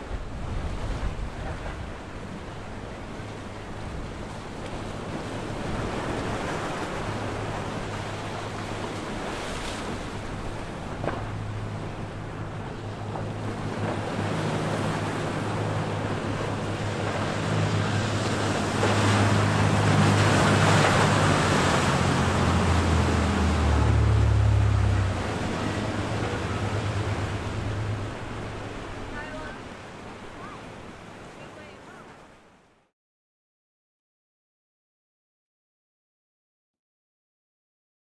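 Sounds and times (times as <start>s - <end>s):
rushing sea water: 0.0s - 32.9s
wind: 0.0s - 33.0s
boat diesel engines droning: 0.4s - 32.1s.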